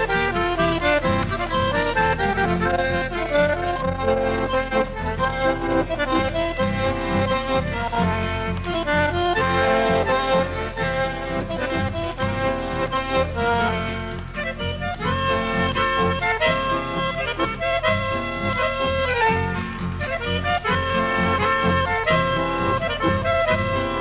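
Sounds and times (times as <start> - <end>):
accordion melody: 0.0 - 24.0
deep bass guitar line: 0.0 - 24.0
strummed guitars: 0.0 - 24.0.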